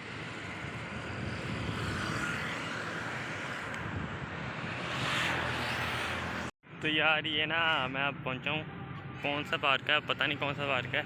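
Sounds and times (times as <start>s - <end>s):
steady rushing noise with rumble: 0.0s - 10.1s.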